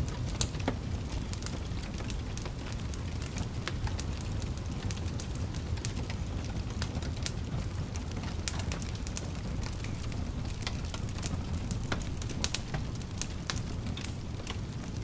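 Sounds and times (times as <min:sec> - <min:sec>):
fire rumbling: 0:00.0 - 0:15.0
fire pops and snaps: 0:00.1 - 0:15.0.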